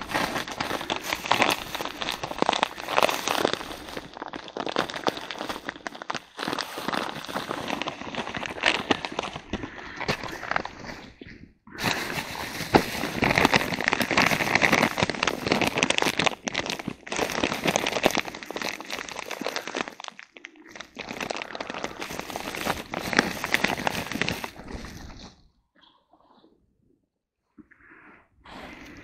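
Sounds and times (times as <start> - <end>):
plastic bag crinkling: 0.0 - 11.1, 11.8 - 25.5.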